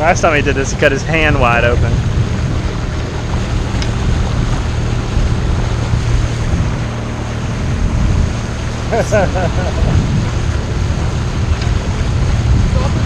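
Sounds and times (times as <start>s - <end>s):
outboard motor hum: 0.0s - 13.0s
water noise: 0.0s - 13.0s
wind rushing over microphone: 0.0s - 13.0s.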